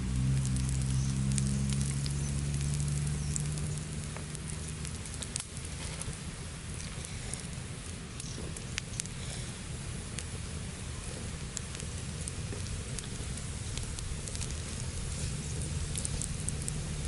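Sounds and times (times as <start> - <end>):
liquid sizzling on hot stone: 0.0 - 17.0
wood fire crackling: 0.0 - 17.0.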